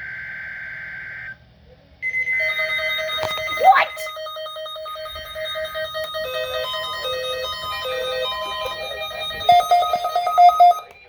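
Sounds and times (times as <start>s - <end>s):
rapidly pulsing beep: 2.0s - 11.0s
two-note hi-lo alarm: 2.0s - 11.0s.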